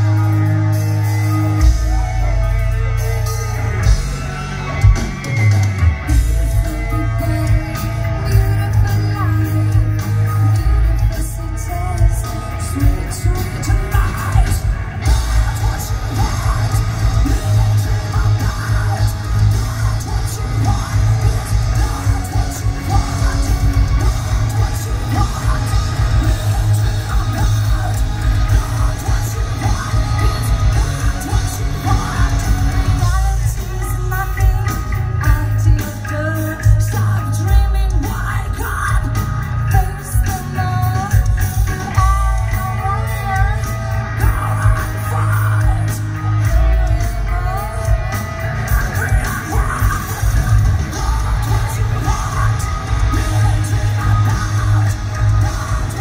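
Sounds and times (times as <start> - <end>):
live metal band playing: 0.0 - 56.0.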